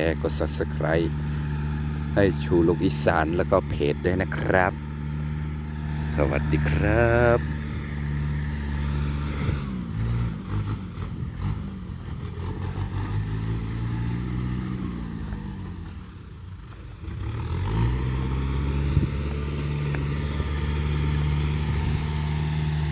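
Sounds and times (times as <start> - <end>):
vehicle engine revving: 0.0 - 22.9.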